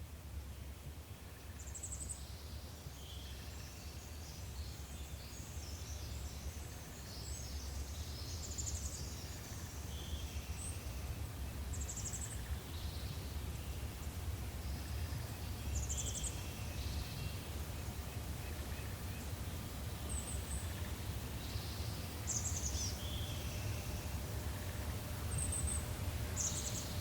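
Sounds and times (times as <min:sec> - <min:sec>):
low background rumble: 0:00.0 - 0:27.0
small birds chirping: 0:01.3 - 0:27.0.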